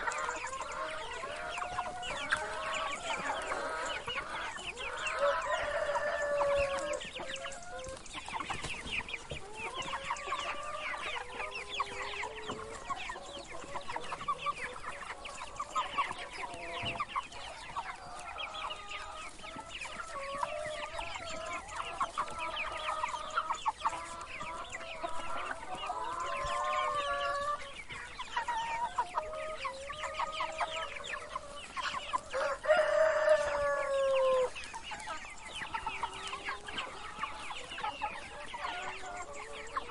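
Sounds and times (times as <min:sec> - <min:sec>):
chicks cheeping: 0:00.0 - 0:39.9.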